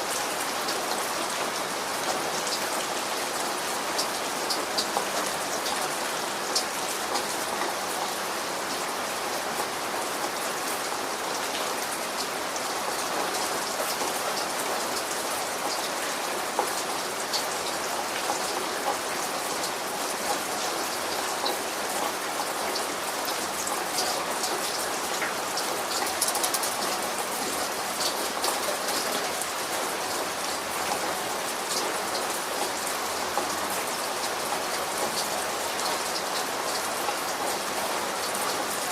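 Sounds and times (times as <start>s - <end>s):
steady rain hiss: 0.0s - 38.9s
raindrops ticking on a surface: 0.1s - 38.9s.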